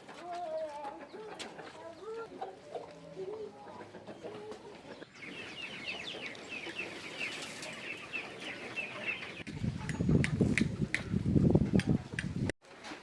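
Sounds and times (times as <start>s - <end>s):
chickens peeping: 0.0s - 12.5s.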